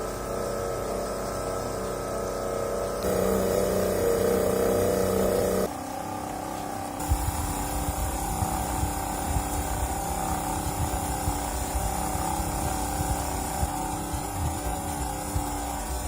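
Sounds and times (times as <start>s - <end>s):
small electric motor humming: 0.0s - 16.0s.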